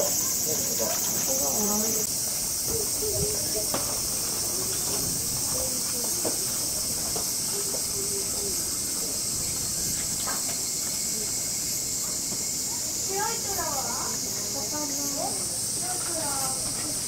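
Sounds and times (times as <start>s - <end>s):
faint voices: 0.0s - 17.0s
high-pitched insect chorus: 0.0s - 17.0s.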